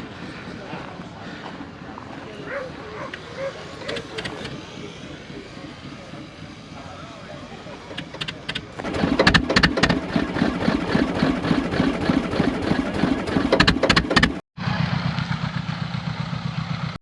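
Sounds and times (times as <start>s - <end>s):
engine idling steadily: 0.0s - 17.0s
clattering vehicle engine: 3.0s - 17.0s.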